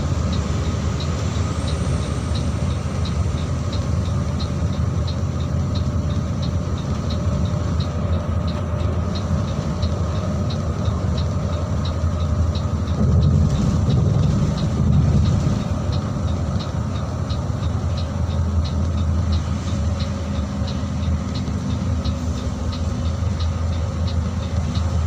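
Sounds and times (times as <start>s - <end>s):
bus engine and road rumble: 0.0s - 25.0s
faint regular tick: 0.3s - 25.0s.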